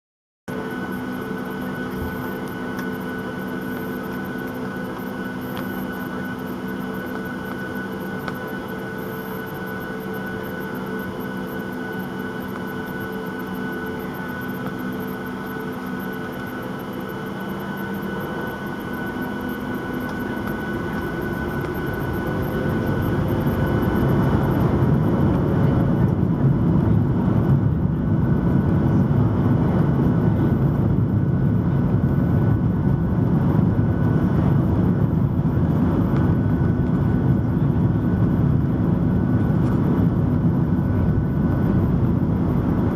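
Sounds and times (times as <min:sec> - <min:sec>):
jet engines whine and rush: 0:00.5 - 0:42.9.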